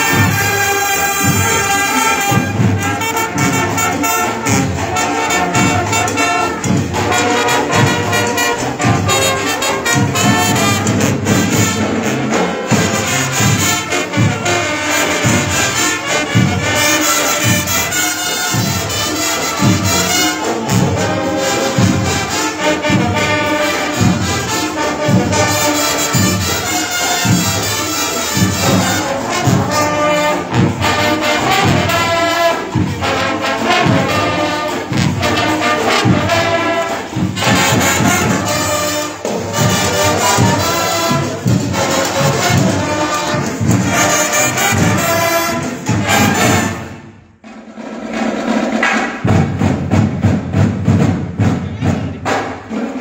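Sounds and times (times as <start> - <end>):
drum beat: 0.0 - 53.0
marching band playing: 0.0 - 53.0.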